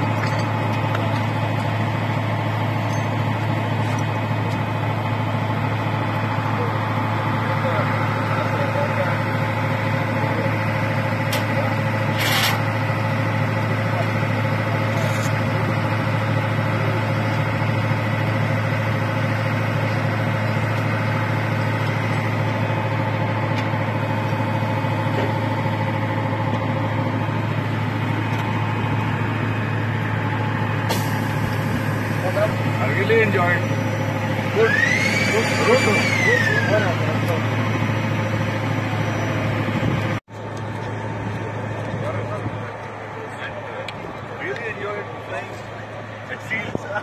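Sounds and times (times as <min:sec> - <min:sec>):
fighter jet engine drone: 0:00.0 - 0:47.0.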